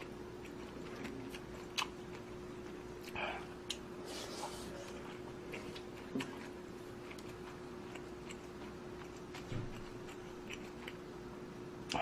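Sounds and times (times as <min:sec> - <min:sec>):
faint steady hum: 0:00.0 - 0:12.0
person chewing food: 0:00.0 - 0:12.0.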